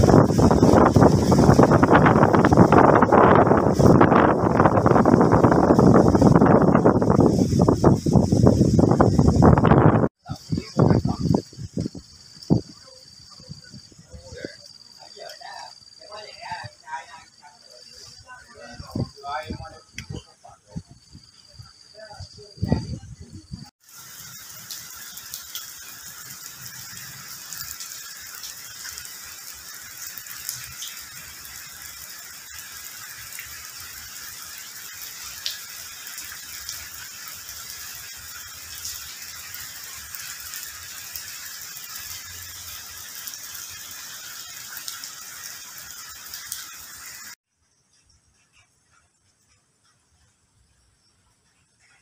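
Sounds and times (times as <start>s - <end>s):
rain on foliage and water: 0.0s - 20.3s, 23.6s - 47.4s.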